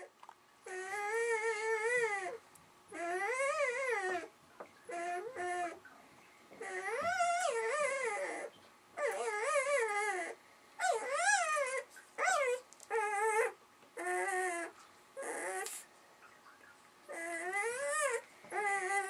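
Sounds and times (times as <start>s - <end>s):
newborn puppy whining: 0.0s - 5.9s, 6.5s - 19.0s.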